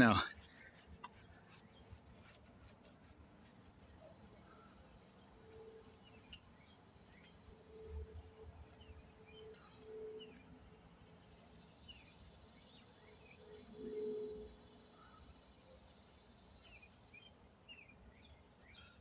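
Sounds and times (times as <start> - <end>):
insects chirring: 0.0 - 18.4
faint bird chirps: 0.0 - 19.0.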